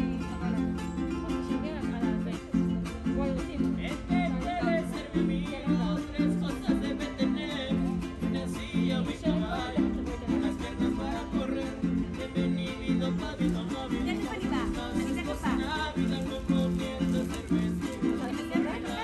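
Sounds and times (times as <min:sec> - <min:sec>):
acoustic guitars strummed: 0:00.0 - 0:19.0.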